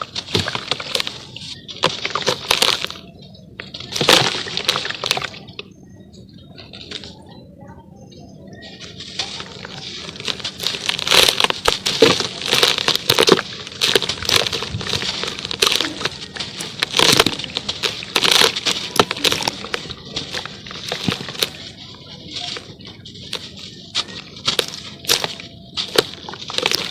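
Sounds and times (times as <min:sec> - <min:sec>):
charcoal crackling in water: 0:00.0 - 0:05.7, 0:08.7 - 0:26.9.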